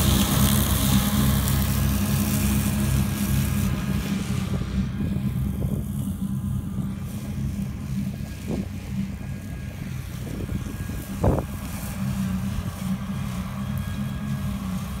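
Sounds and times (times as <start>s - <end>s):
mulcher cutting grass: 0.0s - 15.0s
tractor engine running under load: 0.0s - 15.0s.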